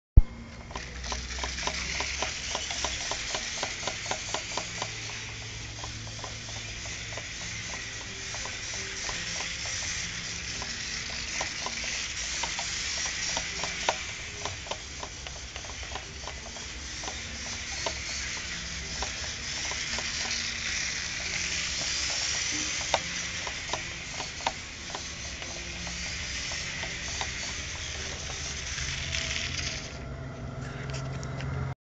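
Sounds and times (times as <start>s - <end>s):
small electric motor running: 0.2s - 31.8s.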